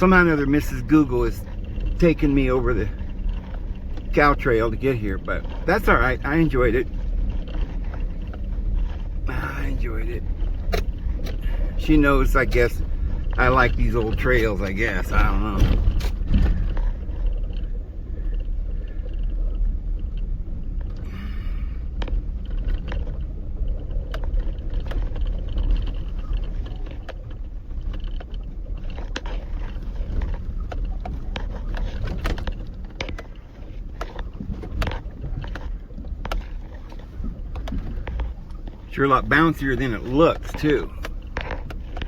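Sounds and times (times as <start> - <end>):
vehicle knocks and rattles: 0.0 - 21.2, 21.8 - 42.0
engine and tyres rumbling: 0.0 - 42.0.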